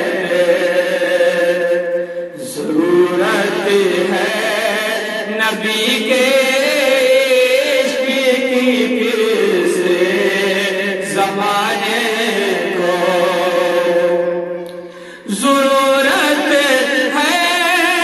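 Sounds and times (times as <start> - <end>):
man singing devotional song: 0.0 - 18.0.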